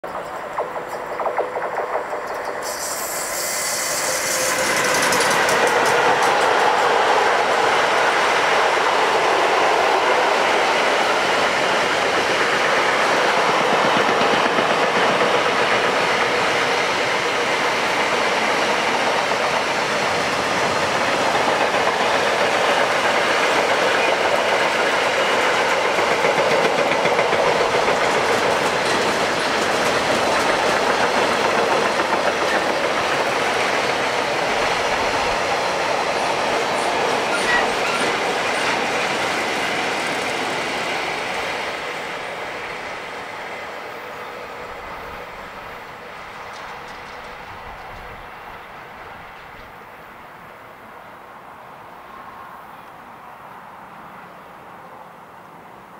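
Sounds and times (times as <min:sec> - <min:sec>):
freight train wheels rolling on rails: 0:00.0 - 0:53.0.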